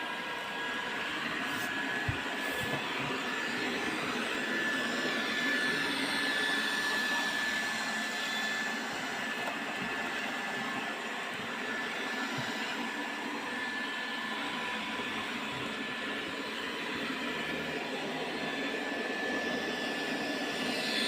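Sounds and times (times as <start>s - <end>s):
robot vacuum cleaner whirring: 0.0s - 21.0s.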